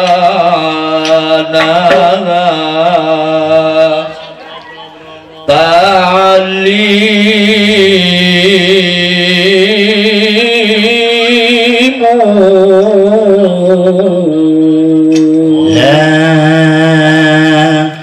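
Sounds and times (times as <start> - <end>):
men chanting devotional song: 0.0 - 18.0.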